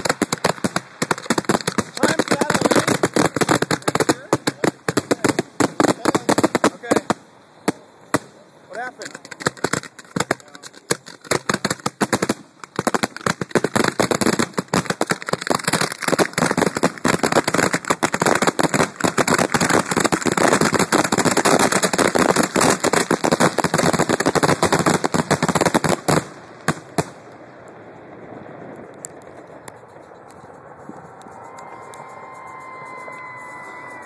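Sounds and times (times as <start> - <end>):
fireworks bangs and crackles: 0.0 - 31.2.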